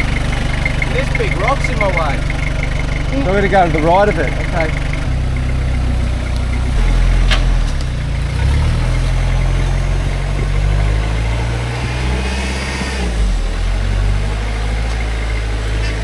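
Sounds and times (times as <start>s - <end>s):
diesel engine running at low revs: 0.0s - 16.0s.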